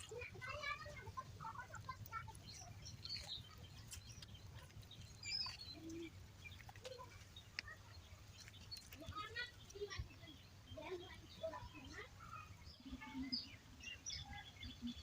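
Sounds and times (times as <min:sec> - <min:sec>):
bird chirps and clicks: 0:00.0 - 0:15.0.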